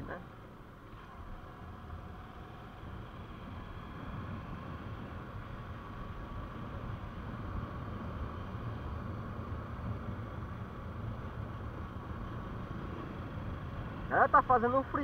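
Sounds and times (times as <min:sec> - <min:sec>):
road and engine noise: 0:00.0 - 0:15.0
wind: 0:00.0 - 0:15.0.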